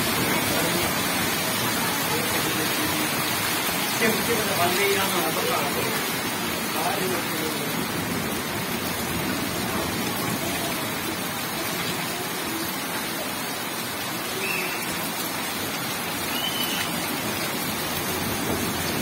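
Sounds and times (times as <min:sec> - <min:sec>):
heavy rain on wet road: 0:00.0 - 0:19.0.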